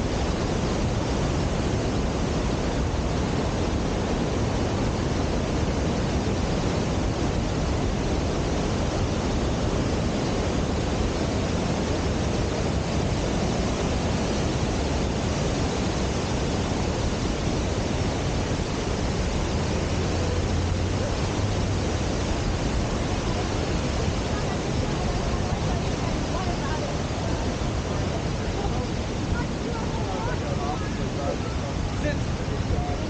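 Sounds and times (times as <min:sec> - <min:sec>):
wind on microphone: 0:00.0 - 0:33.0.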